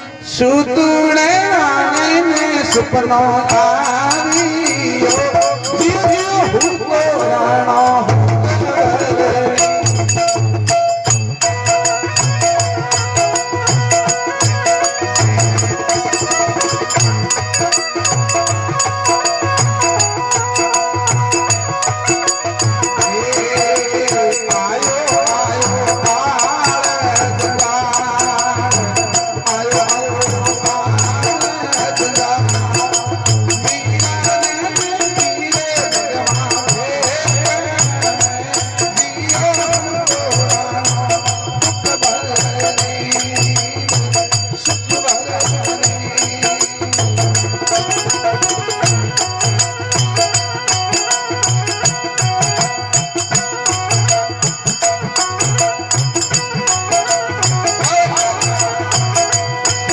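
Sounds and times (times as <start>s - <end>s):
jingling percussion: 0.0s - 59.9s.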